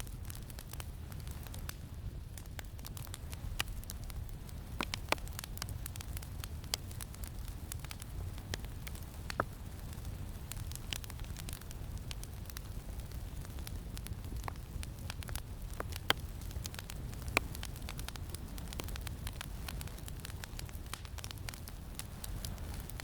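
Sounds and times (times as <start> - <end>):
campfire crackling: 0.0 - 23.0
low rumble of wind: 0.0 - 23.0.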